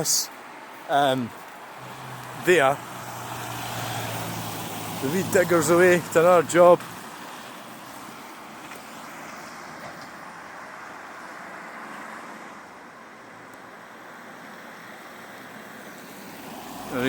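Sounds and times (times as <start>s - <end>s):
road traffic hiss: 0.0s - 17.0s.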